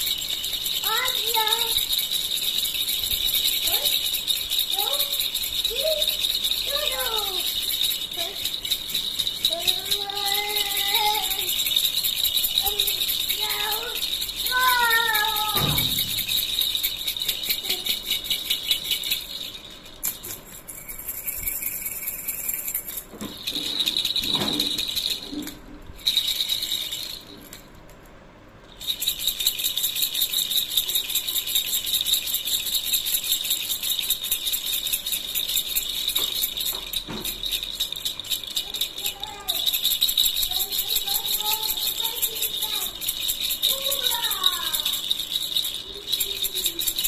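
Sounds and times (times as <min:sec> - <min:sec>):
plastic baby rattle shaking: 0:00.0 - 0:28.0, 0:28.7 - 0:47.0.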